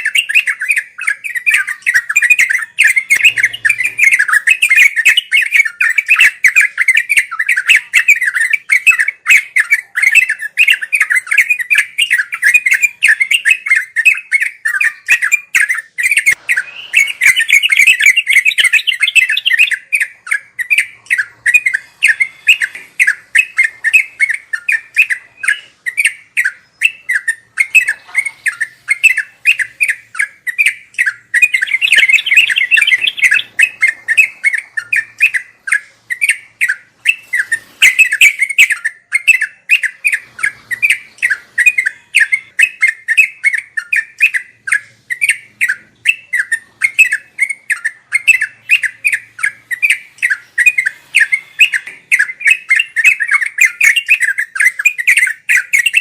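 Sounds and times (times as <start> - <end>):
bulbul chattering song: 0.0 - 56.0.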